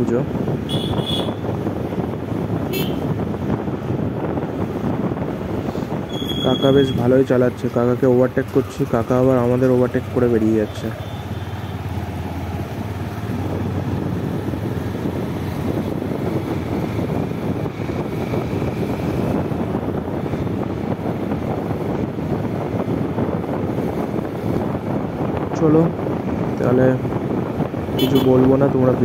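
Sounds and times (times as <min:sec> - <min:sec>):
wind rush over microphone: 0:00.0 - 0:29.0.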